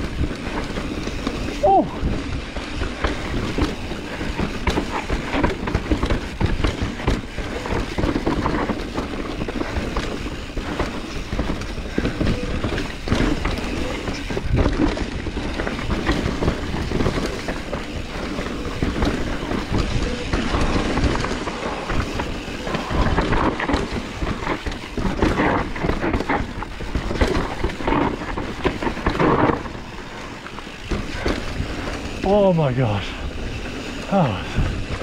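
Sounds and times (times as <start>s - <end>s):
mountain bike rattling on trail: 0.0s - 35.0s.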